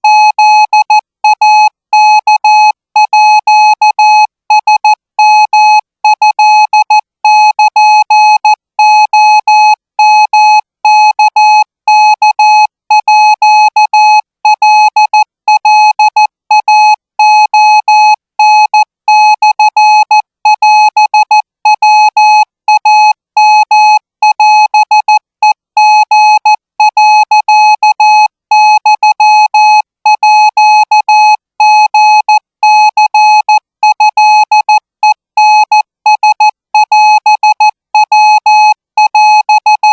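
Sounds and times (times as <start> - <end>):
morse code tone beeps: 0.0 - 39.9.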